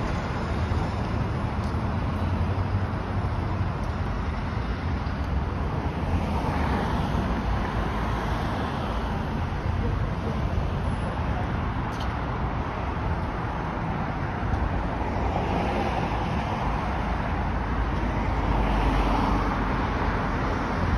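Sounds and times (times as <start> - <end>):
road traffic passing: 0.0 - 20.9.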